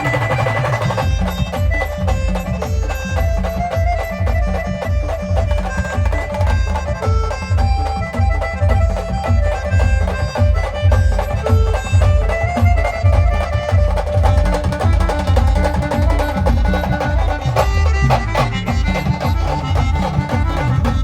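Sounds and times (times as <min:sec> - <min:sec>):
band playing dance tune: 0:00.0 - 0:21.0
steady drum beat: 0:00.0 - 0:21.0.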